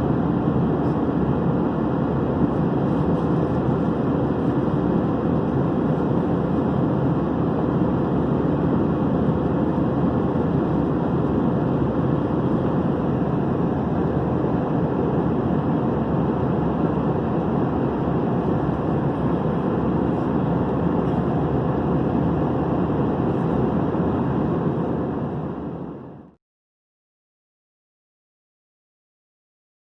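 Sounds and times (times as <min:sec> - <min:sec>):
airflow and engine noise: 0:00.0 - 0:26.4.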